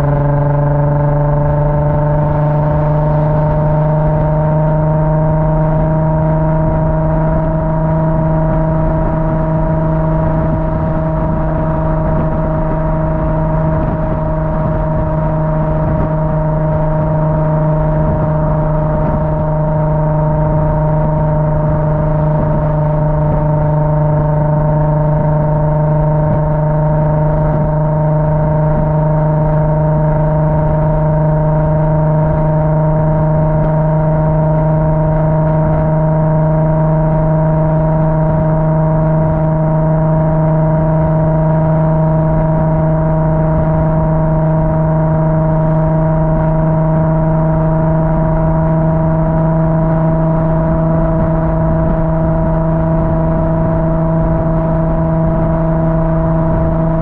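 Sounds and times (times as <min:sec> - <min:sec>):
car engine running steadily: 0:00.0 - 0:57.0.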